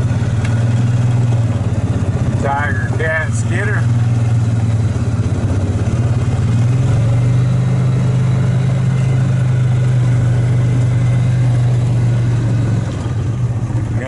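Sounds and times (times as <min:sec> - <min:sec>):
utility vehicle engine humming: 0:00.0 - 0:14.0.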